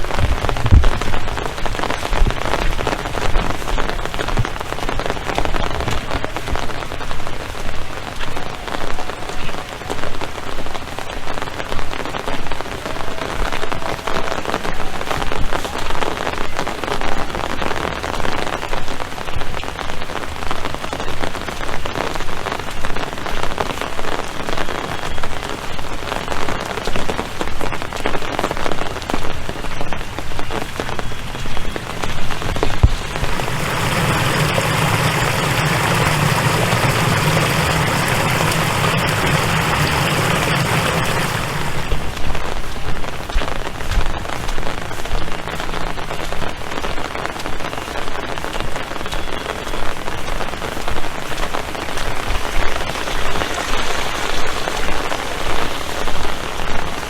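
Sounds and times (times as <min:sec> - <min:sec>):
rain patter: 0:00.0 - 0:57.0.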